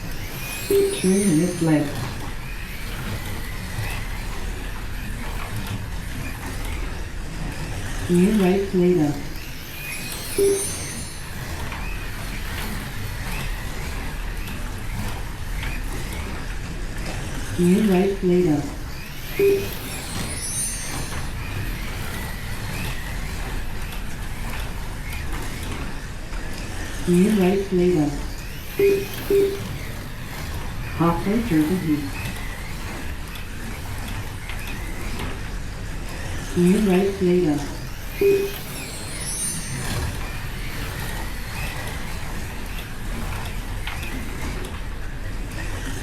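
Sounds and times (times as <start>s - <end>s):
faint wavering motor whine: 0.0s - 46.0s
slot cars whirring: 0.0s - 46.0s.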